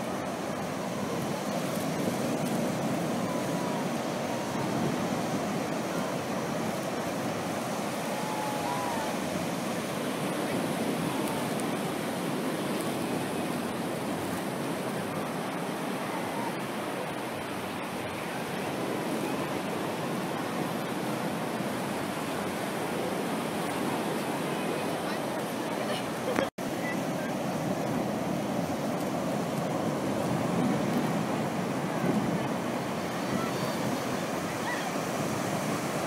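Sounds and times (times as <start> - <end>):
ocean waves breaking: 0.0 - 36.0.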